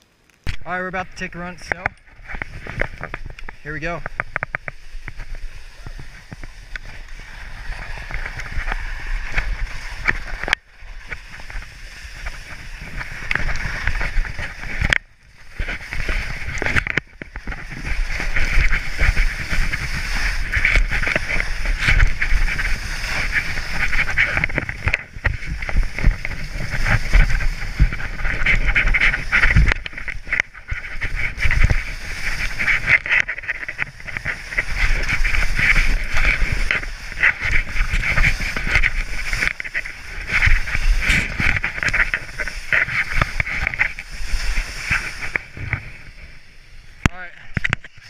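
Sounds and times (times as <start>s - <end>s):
wind rumbling on microphone: 0.4s - 48.0s
skis scraping through slush: 2.2s - 46.9s.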